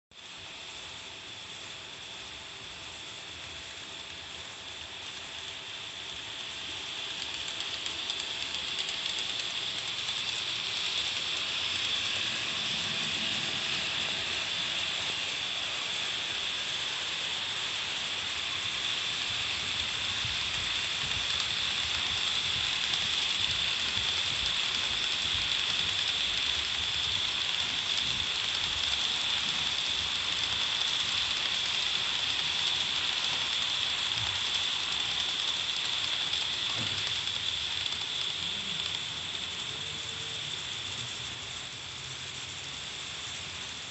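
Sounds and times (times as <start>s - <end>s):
model train wheels rattling: 0.6s - 43.9s.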